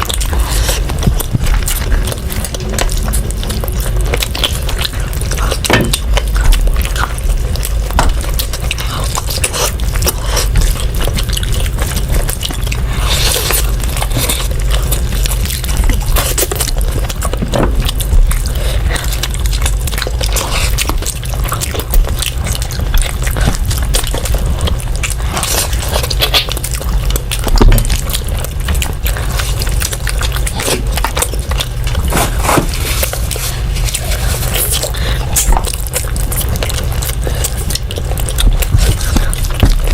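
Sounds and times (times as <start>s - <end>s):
person chewing food: 0.0s - 39.9s
steady low hum: 0.0s - 39.9s.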